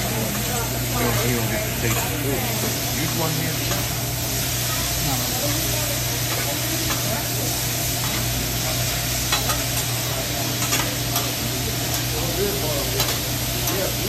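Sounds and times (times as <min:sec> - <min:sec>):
vegetables sizzling on griddle: 0:00.0 - 0:14.0.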